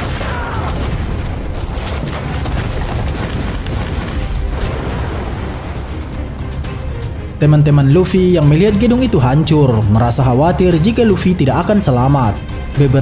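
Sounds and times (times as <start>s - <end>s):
dramatic film music: 0.0s - 13.0s.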